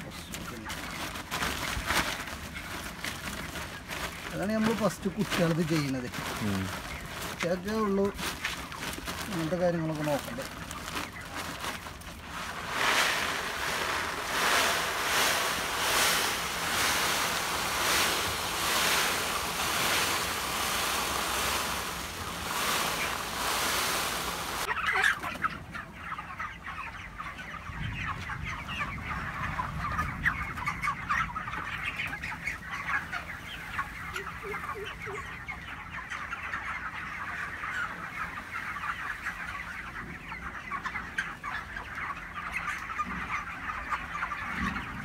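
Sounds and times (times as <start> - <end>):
chicken feed rustling and pouring: 0.0 - 45.0
chickens clucking and peeping: 0.0 - 45.0.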